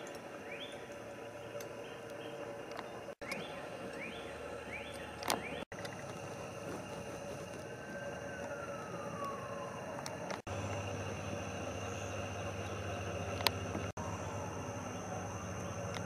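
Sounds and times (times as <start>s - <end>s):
steady outdoor hum: 0.0s - 16.0s.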